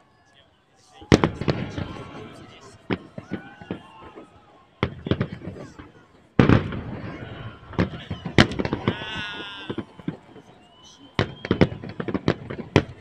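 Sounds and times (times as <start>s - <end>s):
fireworks bangs and crackling: 1.0s - 13.0s.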